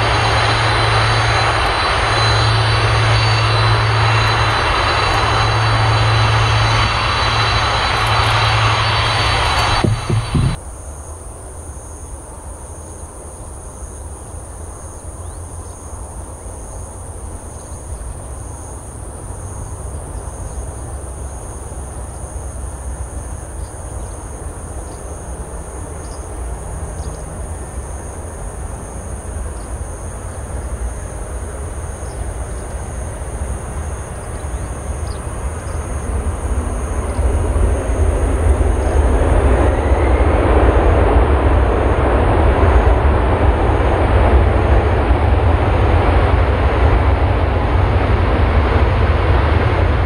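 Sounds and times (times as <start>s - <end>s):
insects chirping: 0.0s - 47.1s
distant jet engines rumbling: 0.0s - 50.0s.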